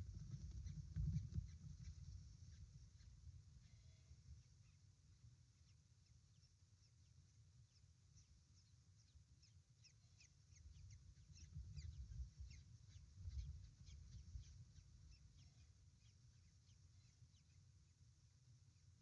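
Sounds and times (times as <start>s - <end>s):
low rumble in nest box: 0.0s - 19.0s
small birds chirping: 0.0s - 19.0s.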